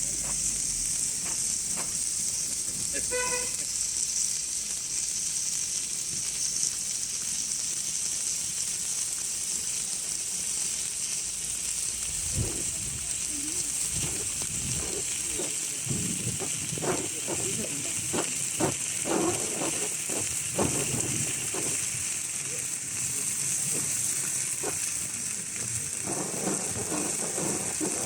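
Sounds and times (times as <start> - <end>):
firework fountain hissing: 0.0 - 28.0.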